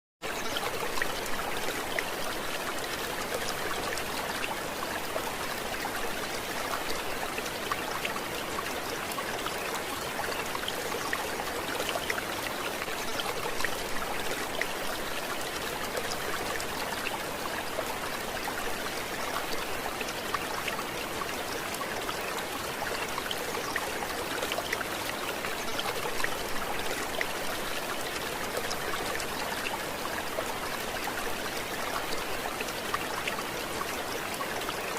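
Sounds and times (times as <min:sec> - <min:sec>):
water trickling and splashing: 0:00.2 - 0:34.9.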